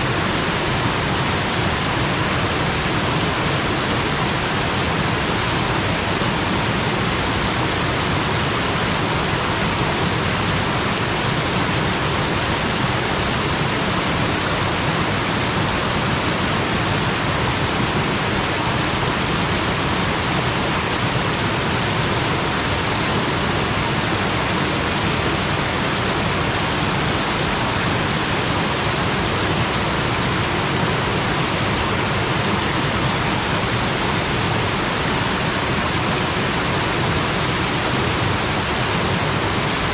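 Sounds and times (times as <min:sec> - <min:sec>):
water rushing between rocks: 0:00.0 - 0:39.9.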